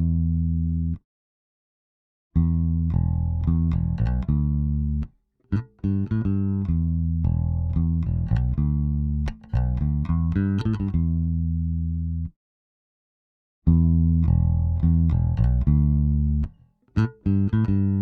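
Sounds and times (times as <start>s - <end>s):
electric bass riff: 0.0s - 1.0s, 2.4s - 12.3s, 13.7s - 18.0s.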